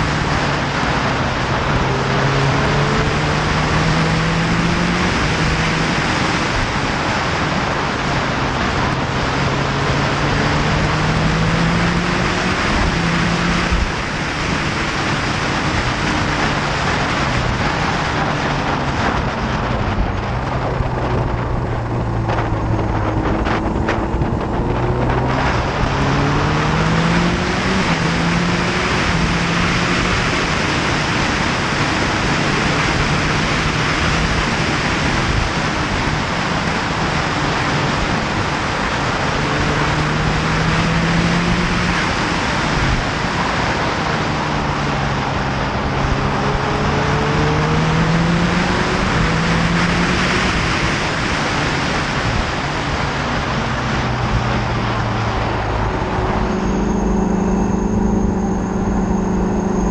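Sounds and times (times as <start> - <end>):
motorcycle engine revving: 0.0 - 59.9
wind rush over microphone: 0.0 - 59.9.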